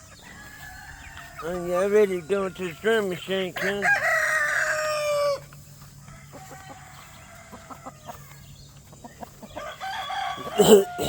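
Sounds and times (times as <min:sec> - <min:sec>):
chickens clucking: 0:00.0 - 0:11.0
rooster crowing: 0:00.2 - 0:08.4, 0:09.5 - 0:11.0.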